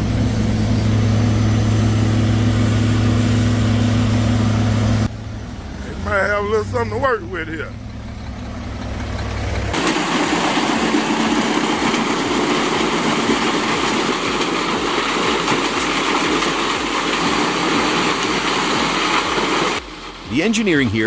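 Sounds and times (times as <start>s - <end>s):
wood chipper grinding: 0.0s - 20.2s
engine running: 0.0s - 21.0s.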